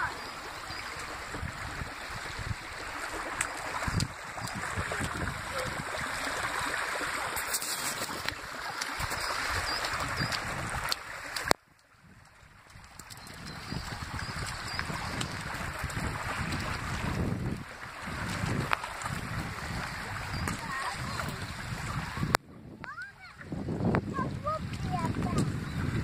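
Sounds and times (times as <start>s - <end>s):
stream rushing over rock: 0.0s - 22.4s, 23.2s - 26.0s.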